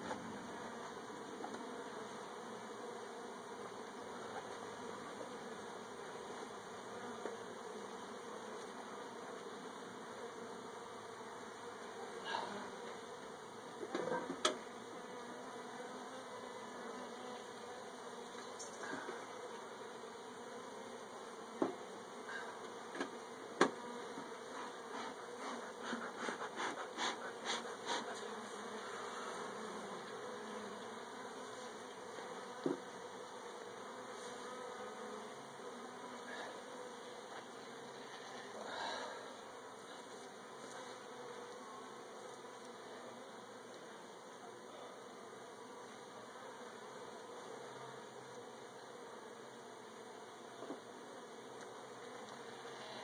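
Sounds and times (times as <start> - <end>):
honeybees buzzing: 0.0 - 53.0.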